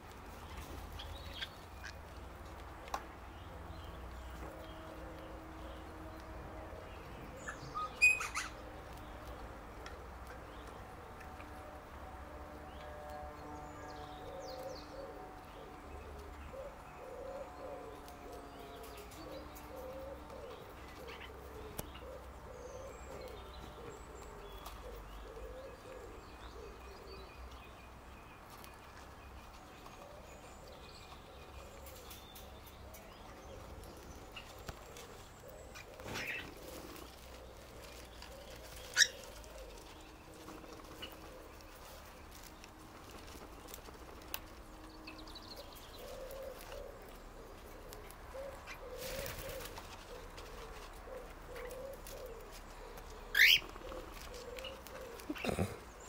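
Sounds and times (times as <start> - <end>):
low cooing calls: 4.2 - 10.7, 14.1 - 27.8, 29.8 - 56.0.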